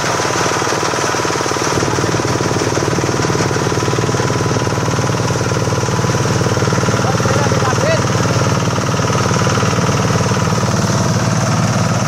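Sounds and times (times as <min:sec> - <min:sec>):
harvester engine running: 0:00.0 - 0:12.0.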